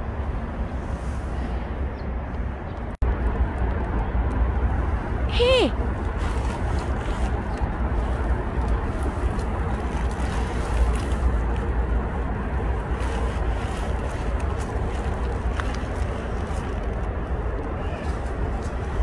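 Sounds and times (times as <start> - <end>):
low fluctuating rumble: 0.0 - 19.0.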